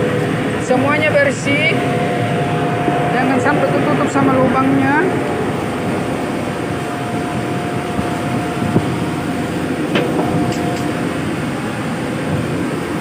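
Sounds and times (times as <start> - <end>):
ship machinery drone: 0.0 - 13.0
thin steady whine: 0.0 - 13.0.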